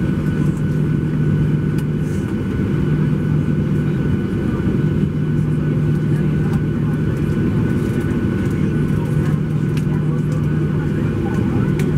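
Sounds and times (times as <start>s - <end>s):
airplane cabin drone: 0.0s - 11.9s.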